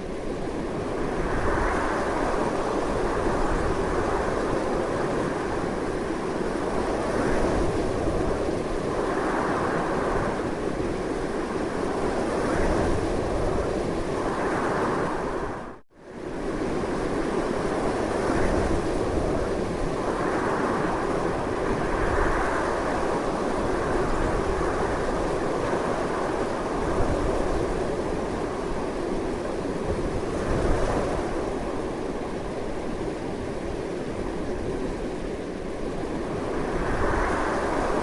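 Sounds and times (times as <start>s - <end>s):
strong steady wind blowing: 0.0s - 38.0s.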